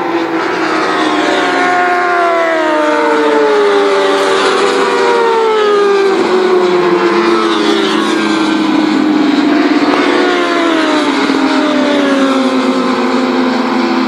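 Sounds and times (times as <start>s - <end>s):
racing motorcycles passing: 0.0s - 14.0s.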